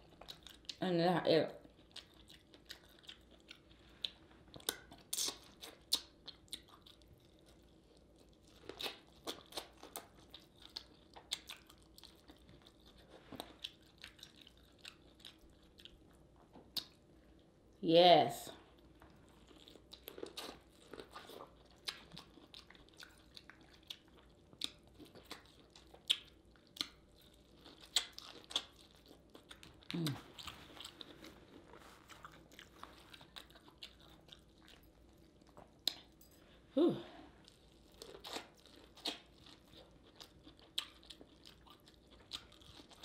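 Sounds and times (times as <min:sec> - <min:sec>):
wet chewing and biting: 0:01.7 - 0:17.1, 0:18.8 - 0:36.4, 0:37.4 - 0:43.0.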